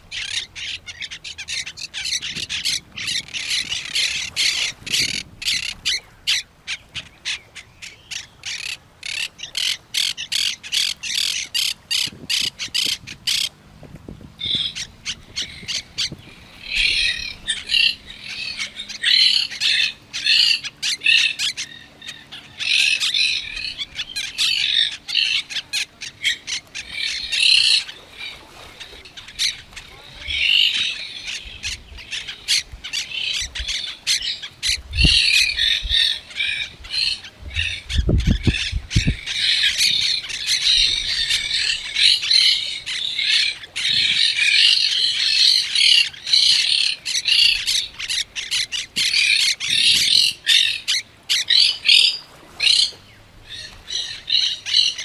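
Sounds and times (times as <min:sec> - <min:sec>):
birds chattering: 0:00.0 - 0:13.5, 0:14.4 - 0:55.0
parrots squawking: 0:00.1 - 0:13.5, 0:14.4 - 0:28.0, 0:28.8 - 0:52.9, 0:53.5 - 0:55.0.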